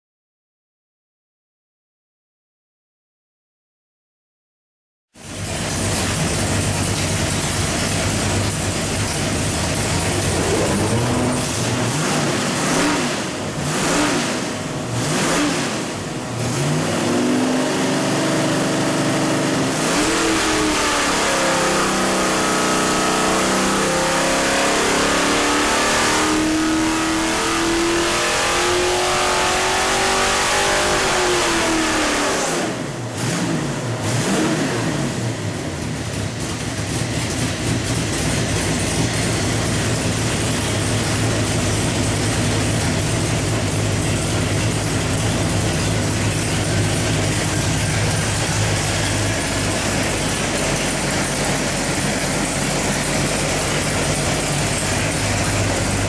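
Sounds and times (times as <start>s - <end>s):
engine revving on a dyno: 5.2s - 56.0s.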